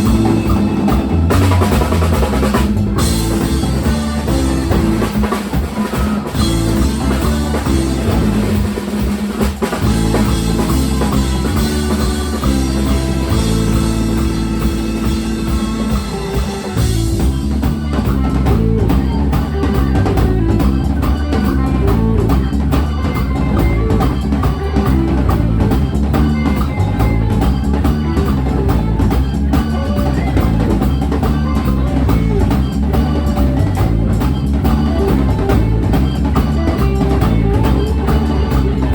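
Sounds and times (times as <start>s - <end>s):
drum kit: 0.0s - 38.9s
guitar: 0.0s - 38.9s.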